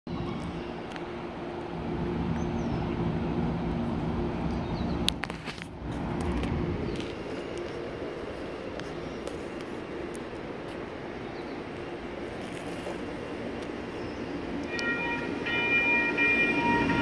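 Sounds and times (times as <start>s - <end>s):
vehicle low hum: 0.1s - 14.9s
traffic noise: 0.1s - 17.0s.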